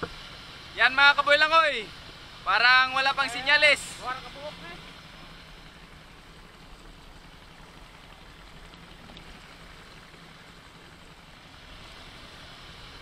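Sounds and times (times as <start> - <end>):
boat engine hum: 0.0 - 13.0
sea water washing against boat: 0.0 - 13.0.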